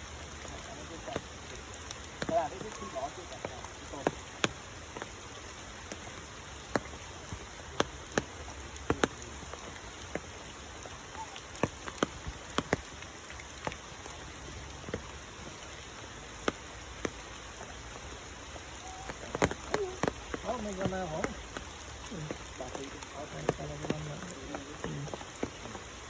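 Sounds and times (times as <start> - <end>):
rain pattering: 0.0 - 26.0
water drops striking a surface: 0.0 - 26.0.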